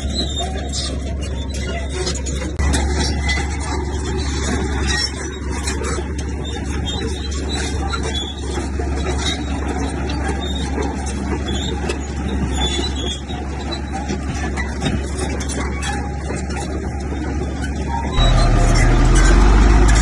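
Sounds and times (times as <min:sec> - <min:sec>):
heavy diesel engine running: 0:00.0 - 0:20.0
metallic clanks and rattles: 0:00.0 - 0:20.0.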